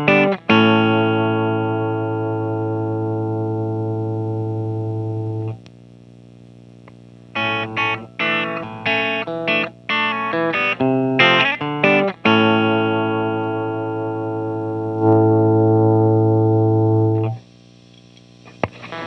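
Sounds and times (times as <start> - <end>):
electric guitar chords and notes: 0.0 - 5.6, 7.3 - 17.4, 18.5 - 19.0.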